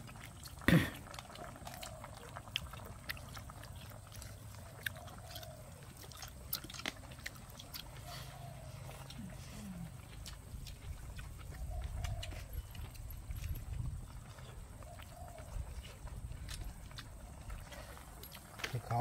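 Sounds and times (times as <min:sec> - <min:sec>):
noodles slurped: 0:00.0 - 0:19.0
quiet chewing: 0:00.0 - 0:19.0.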